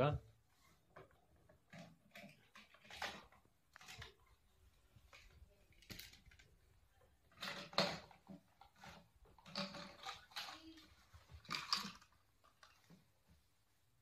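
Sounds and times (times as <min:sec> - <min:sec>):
plastic toys clattering: 0:00.9 - 0:13.4.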